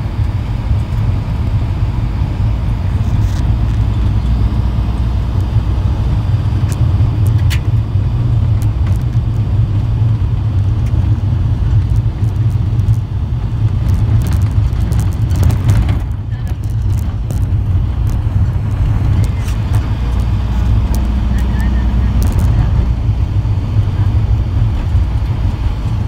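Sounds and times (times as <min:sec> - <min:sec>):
tyre noise: 0:00.0 - 0:26.0
vehicle engine rumble: 0:00.0 - 0:26.0.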